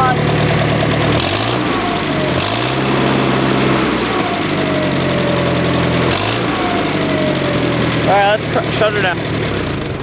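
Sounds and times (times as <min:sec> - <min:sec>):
bulldozer engine revving: 0:00.0 - 0:10.0.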